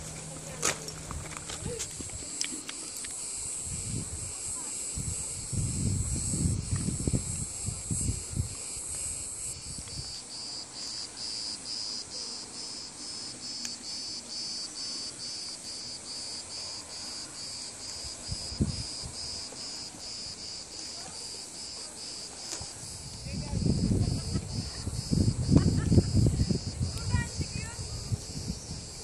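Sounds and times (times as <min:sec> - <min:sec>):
high insect hiss: 0:00.0 - 0:29.0
insects chirping: 0:00.0 - 0:29.0.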